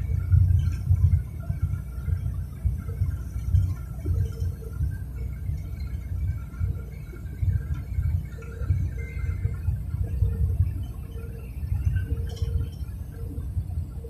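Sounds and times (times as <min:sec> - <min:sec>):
road and wind noise in cabin: 0:00.0 - 0:14.0.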